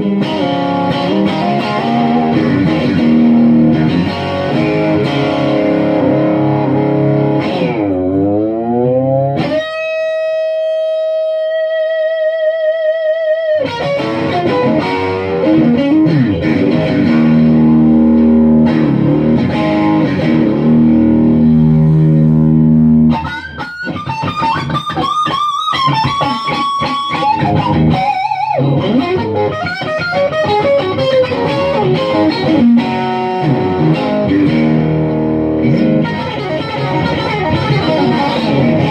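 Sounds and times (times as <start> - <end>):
electric guitar through amplifier: 0.0 - 38.9.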